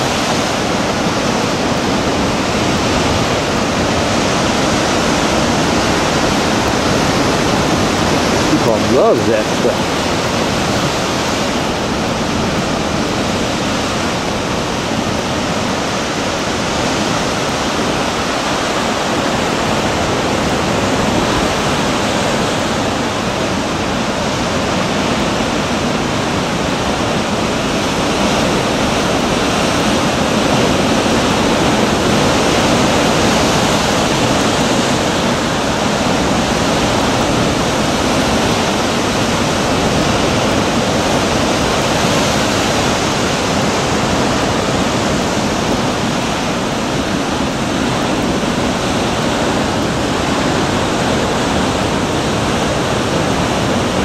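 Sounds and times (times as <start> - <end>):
ocean surf breaking on rocks: 0.0 - 54.0.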